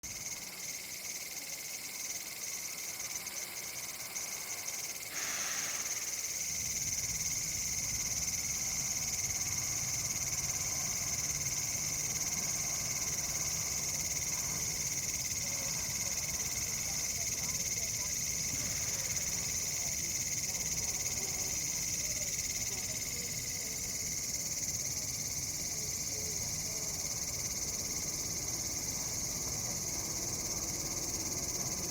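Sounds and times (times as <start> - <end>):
cicadas buzzing: 0.1 - 31.9.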